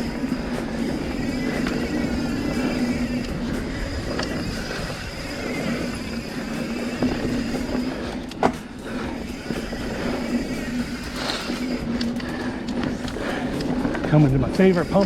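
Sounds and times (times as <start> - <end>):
bicycle hub freewheeling buzz: 0.0 - 15.0
bike tyres rolling on dirt: 0.0 - 15.0.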